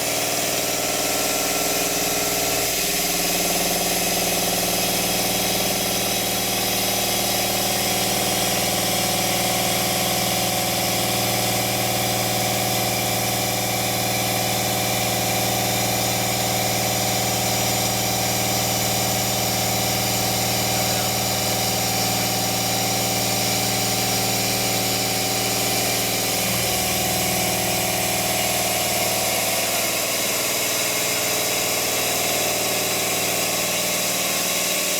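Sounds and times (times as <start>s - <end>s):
milling machine running: 0.0s - 34.9s.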